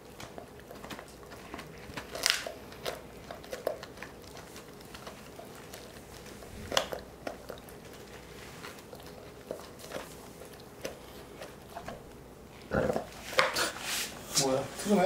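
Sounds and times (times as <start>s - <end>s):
dog gnawing on chew bone: 0.0s - 14.2s.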